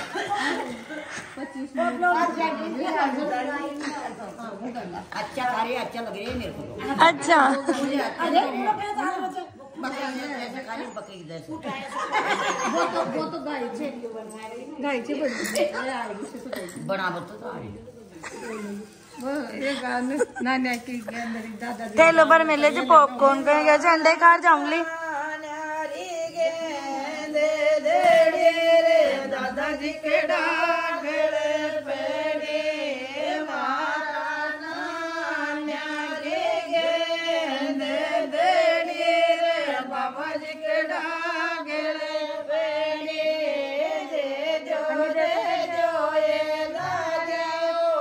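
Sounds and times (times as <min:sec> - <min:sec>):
women singing together: 0:00.0 - 0:16.5, 0:18.2 - 0:48.0.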